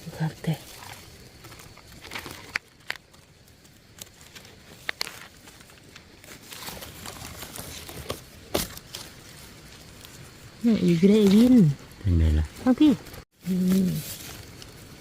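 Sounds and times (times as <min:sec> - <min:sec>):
rustling of leaf litter: 0:00.0 - 0:15.0.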